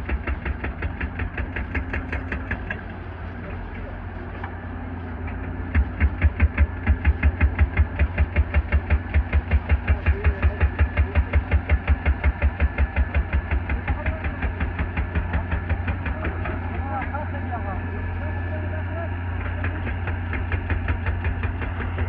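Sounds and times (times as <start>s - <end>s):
hydraulic breaker pounding concrete: 0.0s - 4.6s, 5.2s - 22.0s
excavator engine running: 0.0s - 22.0s.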